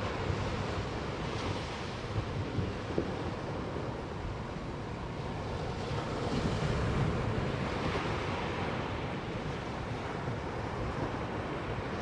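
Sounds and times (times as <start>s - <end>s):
waves breaking on sand beach: 0.0s - 12.0s.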